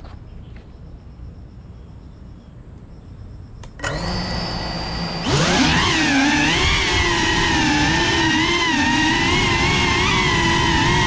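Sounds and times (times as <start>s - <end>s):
drone motors idling whine: 0.0s - 11.0s.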